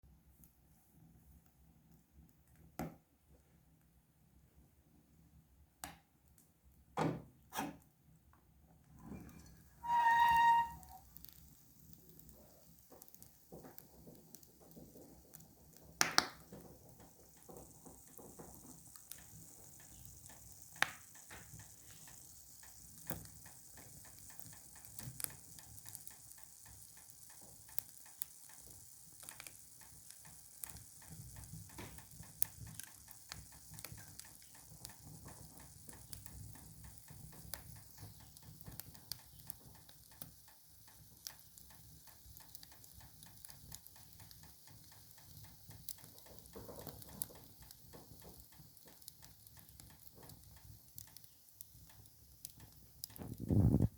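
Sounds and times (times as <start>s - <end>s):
fire crackling and popping: 8.7s - 53.9s
light hiss: 8.7s - 53.9s.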